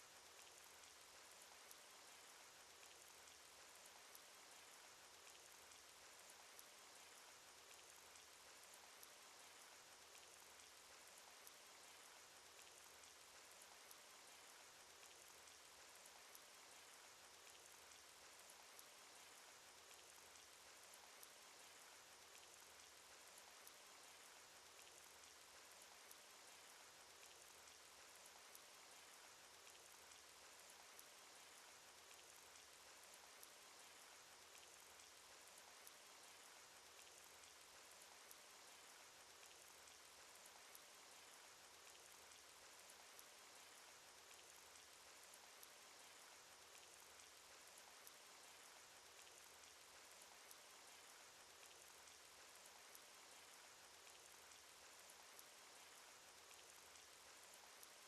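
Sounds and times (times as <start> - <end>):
cartoon rain patter: 0.0 - 58.0
raindrop ticks: 0.0 - 58.0.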